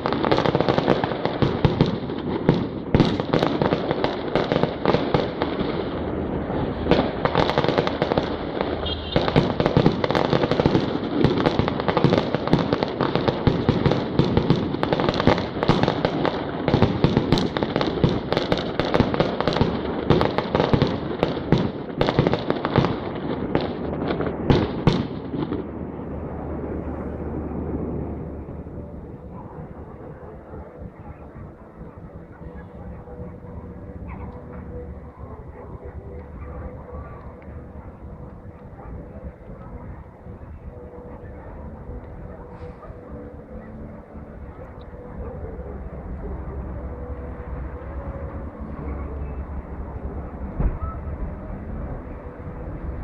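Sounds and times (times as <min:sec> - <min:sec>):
fireworks bangs and crackling: 0:00.0 - 0:45.4.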